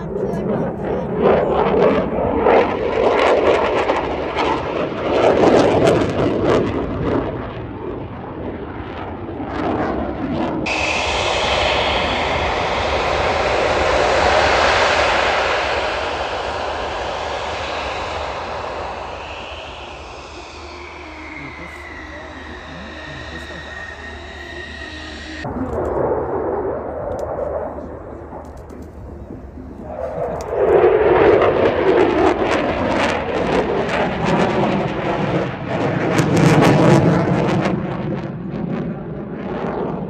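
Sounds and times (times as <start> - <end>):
jet crackling in flight: 0.0 - 40.0
jet engine whine on runway: 0.0 - 40.0.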